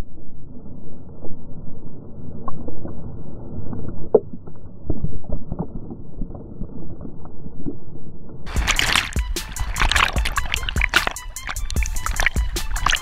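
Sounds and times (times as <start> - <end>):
muffled water rush and sloshes: 0.0 - 13.0.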